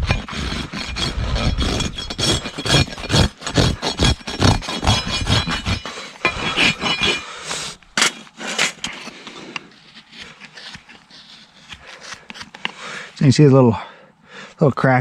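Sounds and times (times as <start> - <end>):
rasp filing a hoof: 0.0 - 13.2.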